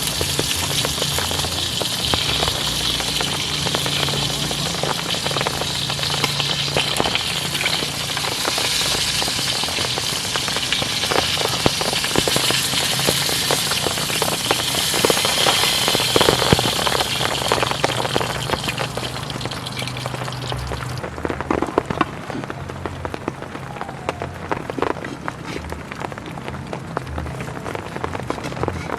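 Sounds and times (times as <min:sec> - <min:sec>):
heavy rain on tent fabric: 0:00.0 - 0:28.9.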